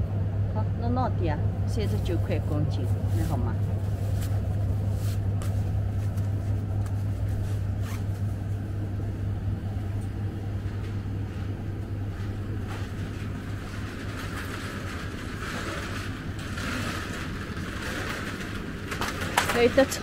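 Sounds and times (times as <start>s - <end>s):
refrigerated display cases humming: 0.0s - 20.0s.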